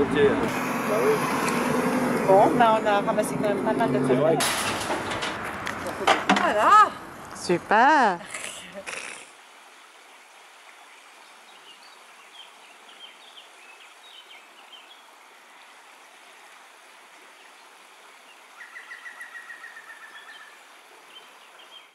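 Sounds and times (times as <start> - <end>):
steady outdoor hiss: 0.0 - 21.9.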